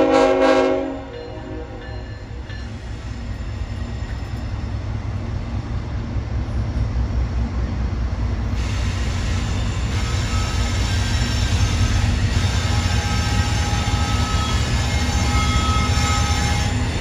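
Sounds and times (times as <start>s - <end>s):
diesel locomotive engine rumble: 0.0s - 17.0s
train wheel and rail noise: 0.0s - 17.0s.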